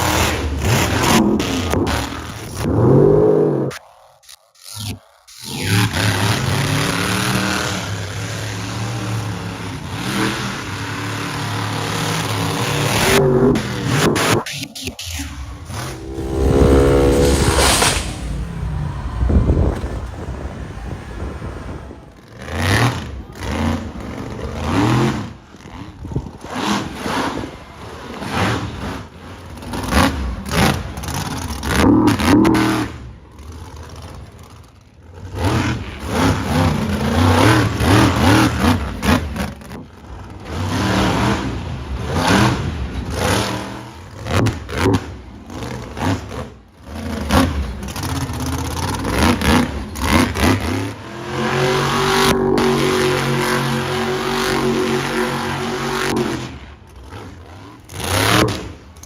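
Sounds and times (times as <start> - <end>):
truck engines revving hard: 0.0 - 3.8, 4.6 - 59.0.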